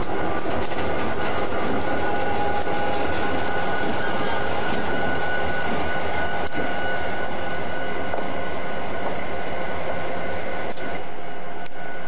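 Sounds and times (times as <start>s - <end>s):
locomotive idling hum: 0.0s - 12.0s.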